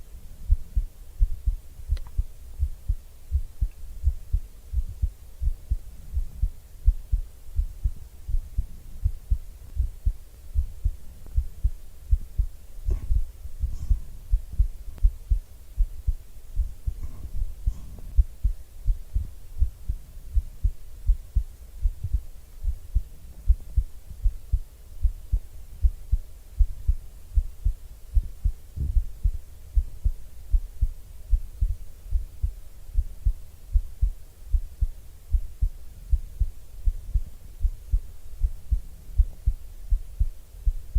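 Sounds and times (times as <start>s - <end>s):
heartbeat thumps: 0.0s - 40.9s.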